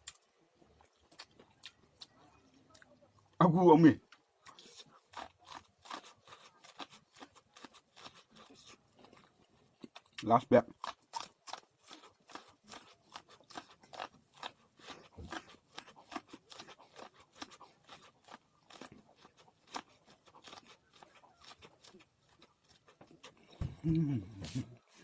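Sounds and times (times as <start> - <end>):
popcorn being chewed: 0.0 - 23.6.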